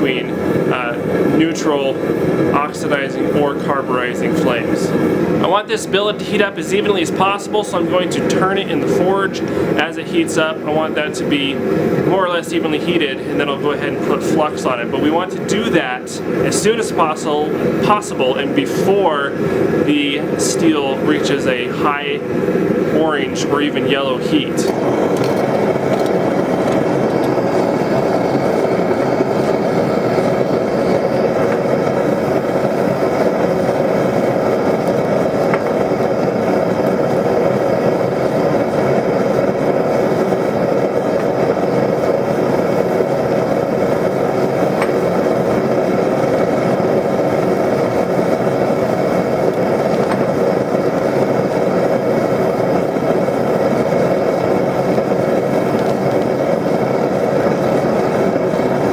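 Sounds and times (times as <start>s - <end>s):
gas burner rushing: 0.0s - 58.9s.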